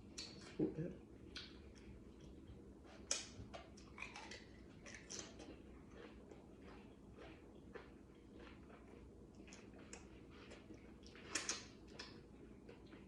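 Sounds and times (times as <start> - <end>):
wet mouth clicks and smacks: 0.1 - 0.6, 1.3 - 2.4, 3.0 - 13.0
person chewing food: 1.2 - 13.0.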